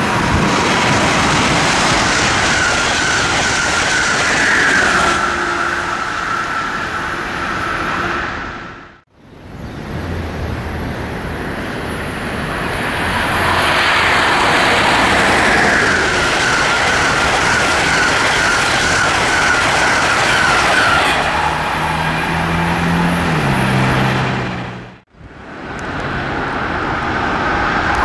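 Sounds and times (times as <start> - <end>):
train wheels rattling on rail: 0.0 - 8.4, 10.3 - 24.7
high whine: 0.0 - 28.0.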